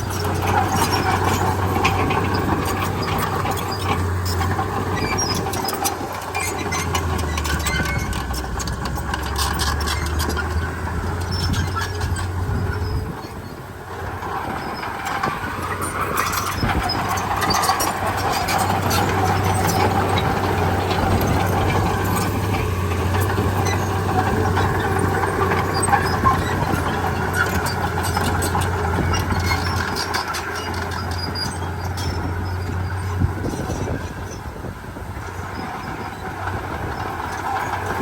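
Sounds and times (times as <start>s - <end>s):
diesel engine humming: 0.0s - 38.0s
metallic clanks and squeaks: 0.0s - 38.0s.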